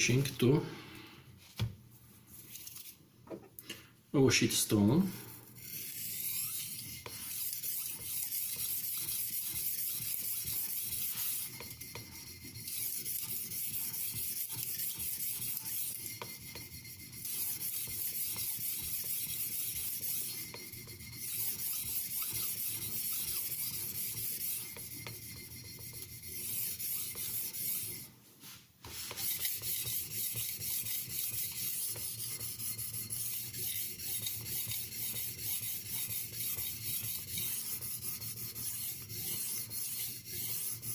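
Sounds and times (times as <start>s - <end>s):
knife blade scraping on whetstone: 5.2s - 40.9s.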